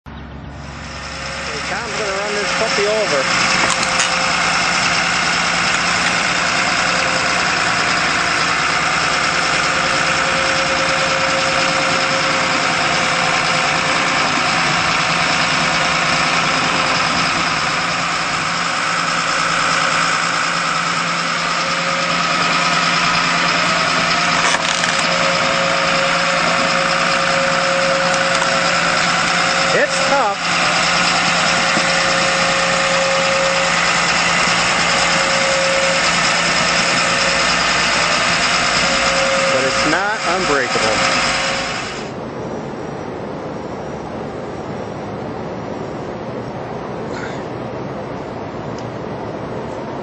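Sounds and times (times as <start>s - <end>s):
diesel engine running: 0.1s - 50.0s.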